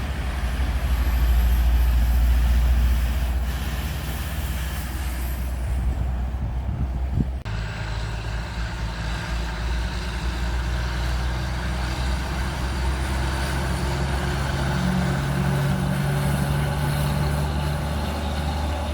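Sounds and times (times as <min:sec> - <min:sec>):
diesel truck engine droning: 0:00.0 - 0:18.9.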